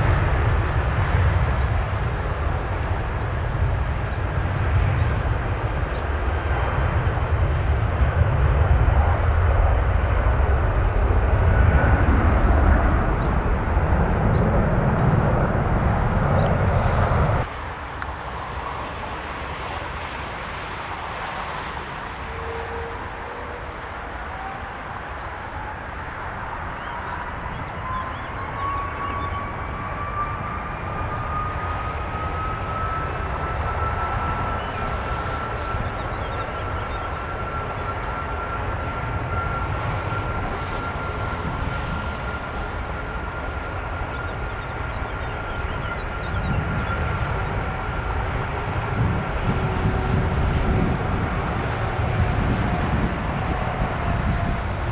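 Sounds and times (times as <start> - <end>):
distant jet rumble with whine: 0.0 - 54.9
jet engines passing close: 0.0 - 54.9.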